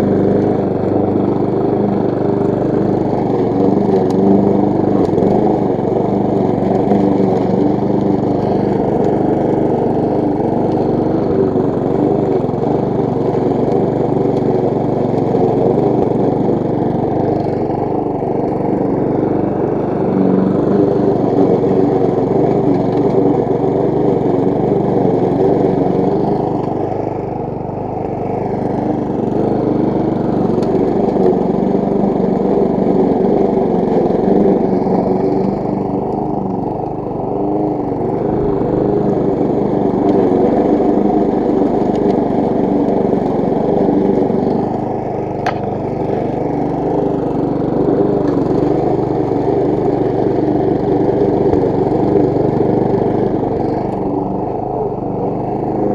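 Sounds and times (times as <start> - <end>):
lawn mower engine cutting grass: 0.0 - 55.9.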